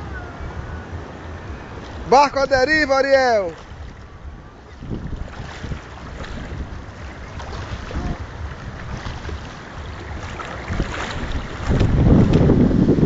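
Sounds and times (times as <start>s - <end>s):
wind buffeting microphone: 0.0s - 13.0s
water lapping and splashing: 0.4s - 13.0s.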